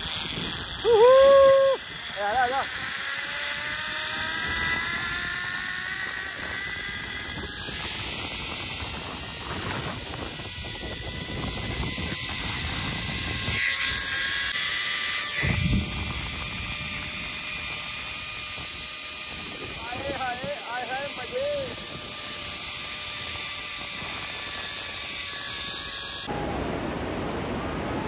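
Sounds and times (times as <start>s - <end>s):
zip-line pulleys whirring: 0.0s - 26.3s.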